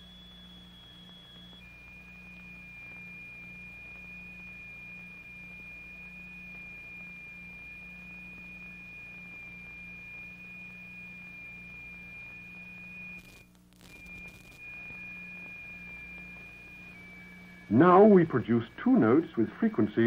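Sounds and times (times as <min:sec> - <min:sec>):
high-pitched sine tone: 0:00.0 - 0:20.0
low hum: 0:00.0 - 0:20.0.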